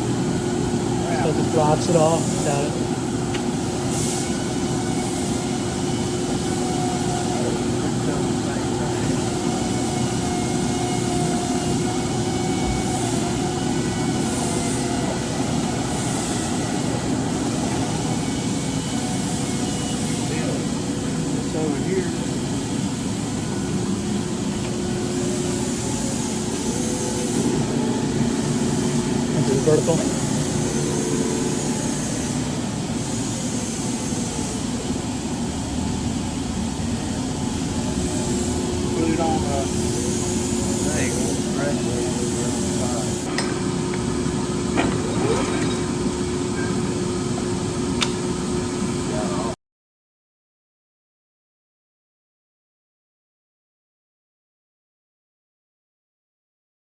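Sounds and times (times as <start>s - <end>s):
lathe humming: 0.0s - 49.3s.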